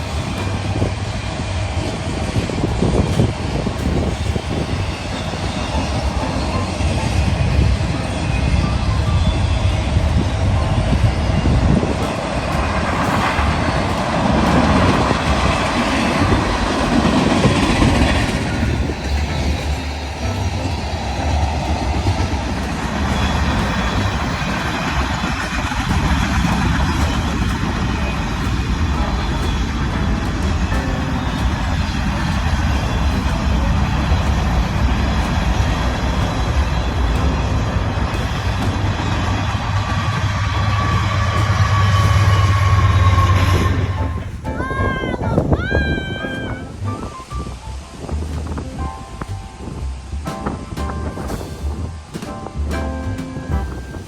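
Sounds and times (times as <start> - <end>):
train wheels clattering on rails: 0.0 - 44.6, 46.8 - 54.0.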